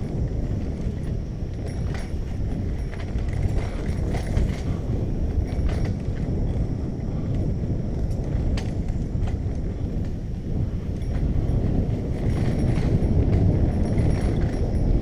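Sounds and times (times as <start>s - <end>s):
light clicks and rattles: 0.0s - 15.0s
wind rumbling on microphone: 0.0s - 15.0s.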